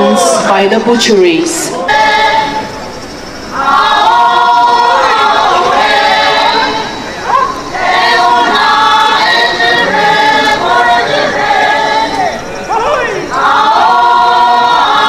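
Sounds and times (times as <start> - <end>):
women singing unaccompanied: 0.0 - 2.9, 3.5 - 12.5, 13.3 - 15.0.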